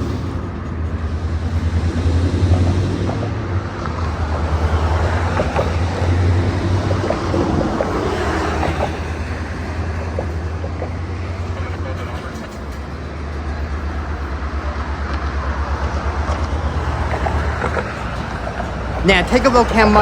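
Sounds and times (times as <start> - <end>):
diesel locomotive engine throbbing: 0.0 - 20.0.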